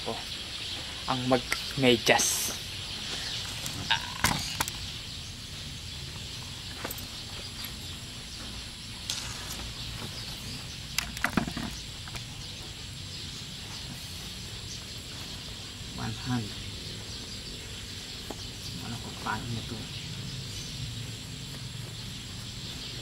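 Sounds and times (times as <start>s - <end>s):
insects hissing: 0.0s - 23.0s.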